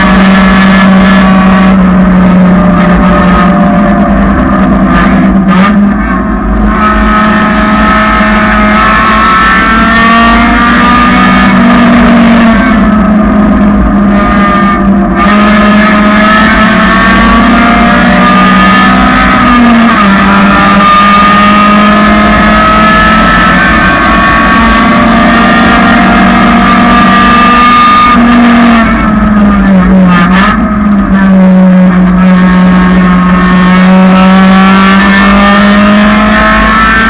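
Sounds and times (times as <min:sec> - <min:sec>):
car engine at high revs: 0:00.0 - 0:37.0.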